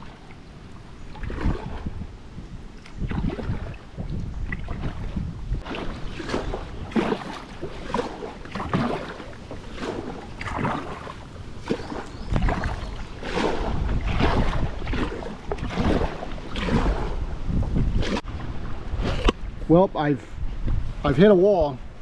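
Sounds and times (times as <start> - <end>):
kayak paddle splashing in water: 0.0 - 2.0, 2.7 - 19.6.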